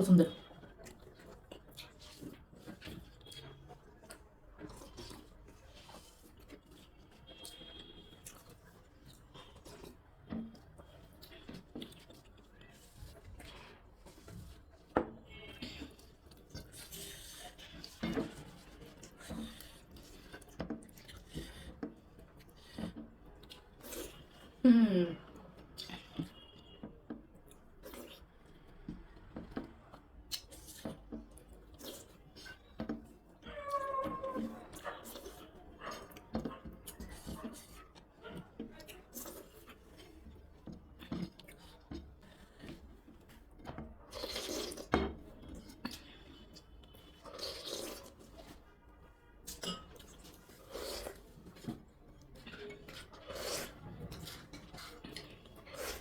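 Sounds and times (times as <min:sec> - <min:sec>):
chewing: 0:00.1 - 0:24.6, 0:25.2 - 0:48.8, 0:49.4 - 0:56.0
food squishing on a plate: 0:00.3 - 0:24.6, 0:25.3 - 0:56.0.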